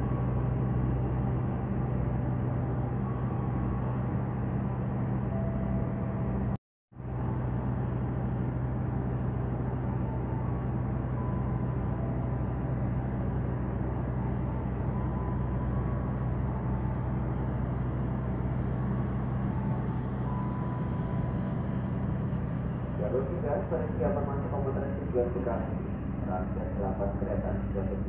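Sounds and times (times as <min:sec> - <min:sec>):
diesel train engine droning: 0:00.0 - 0:28.0.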